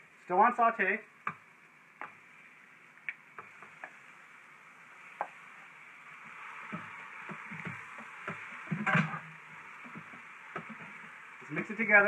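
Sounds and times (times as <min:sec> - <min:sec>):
chicken sizzling in pot: 0:00.0 - 0:12.0.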